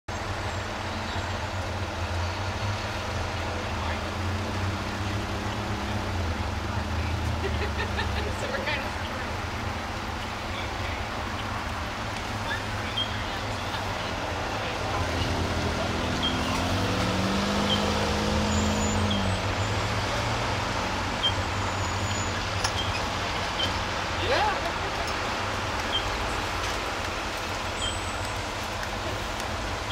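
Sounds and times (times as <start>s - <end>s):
road traffic engines: 0.0s - 29.9s
heavy truck engine drone: 0.1s - 29.9s
car passing slowly: 0.2s - 29.9s.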